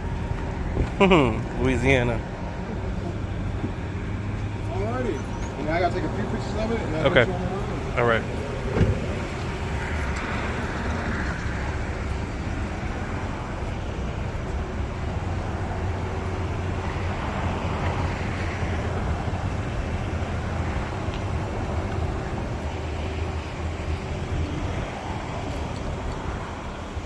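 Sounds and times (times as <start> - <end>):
vehicle cabin rumble: 0.0 - 27.0.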